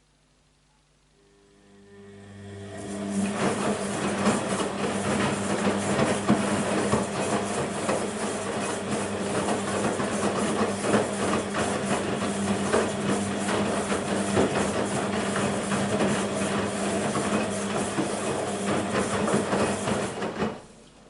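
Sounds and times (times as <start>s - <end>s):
washing machine running: 1.2s - 21.0s.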